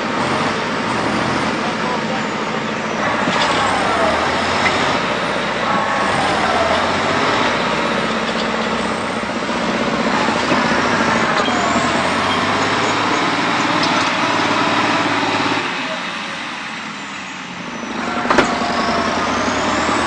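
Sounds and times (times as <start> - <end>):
tractor diesel engines revving: 0.0 - 20.0.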